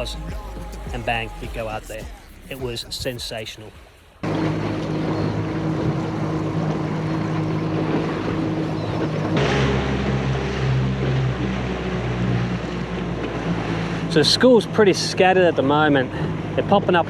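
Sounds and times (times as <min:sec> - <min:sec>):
boat motor running: 0:00.0 - 0:17.0
wind: 0:00.0 - 0:17.0.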